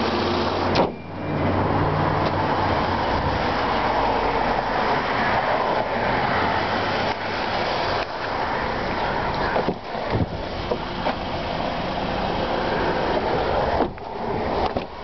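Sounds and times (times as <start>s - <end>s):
car engine idling: 1.9s - 15.0s.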